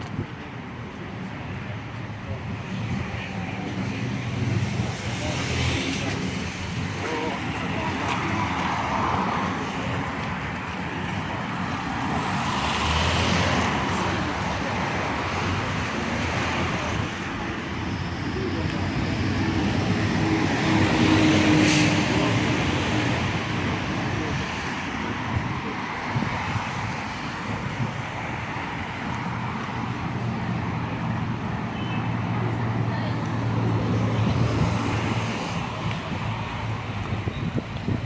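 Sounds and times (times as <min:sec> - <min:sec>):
traffic noise: 0:00.0 - 0:38.0.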